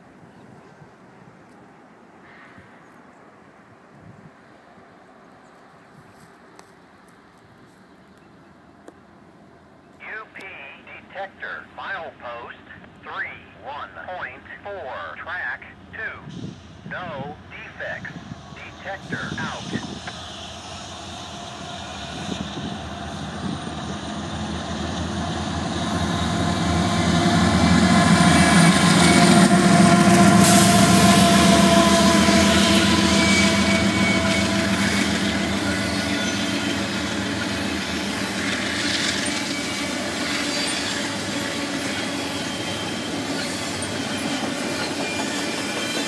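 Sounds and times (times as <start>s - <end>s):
diesel locomotives passing: 4.4s - 46.0s.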